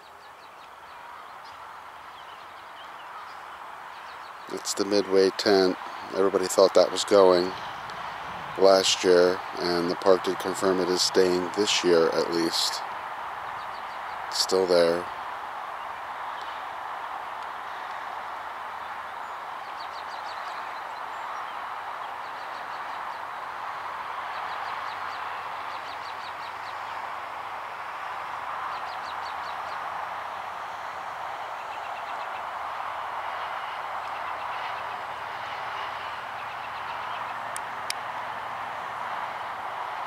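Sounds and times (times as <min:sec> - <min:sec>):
outdoor background noise: 0:00.0 - 0:40.0.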